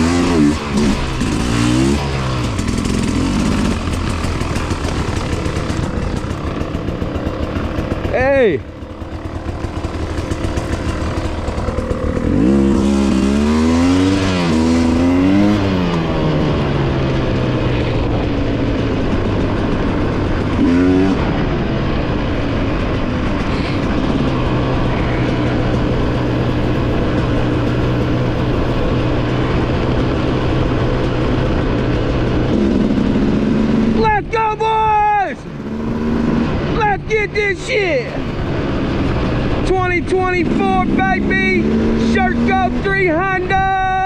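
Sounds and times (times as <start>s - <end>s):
two-stroke dirt bike engine revving: 0.0s - 44.0s.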